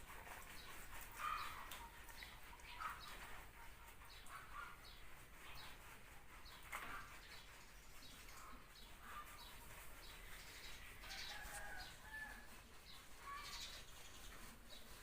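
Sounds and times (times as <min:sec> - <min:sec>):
birds chirping faintly: 0:00.3 - 0:15.0.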